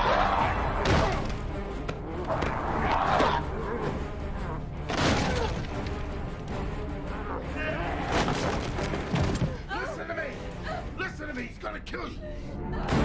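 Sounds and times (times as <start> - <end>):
tense score music: 0.0 - 13.0.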